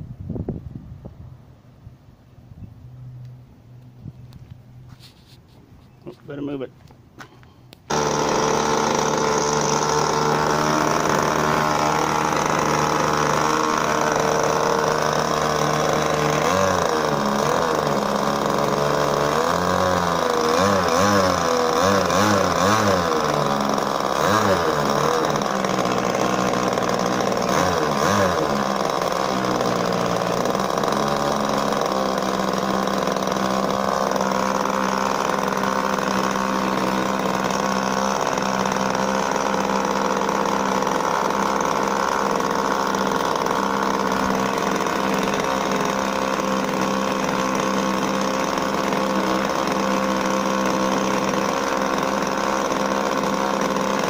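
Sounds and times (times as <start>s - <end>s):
model airplane engine running: 7.9s - 54.0s.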